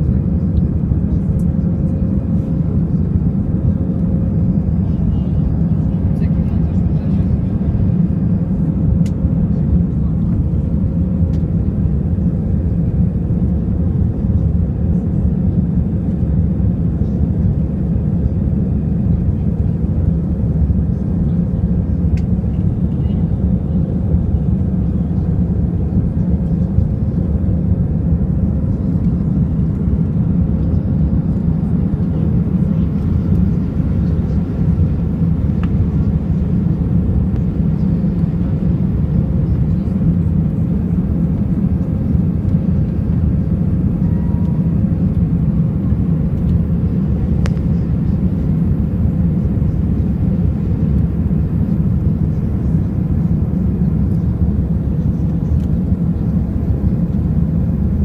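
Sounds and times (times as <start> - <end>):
faint steady hum: 0.0 - 58.0
jet engines rumbling: 0.0 - 58.0.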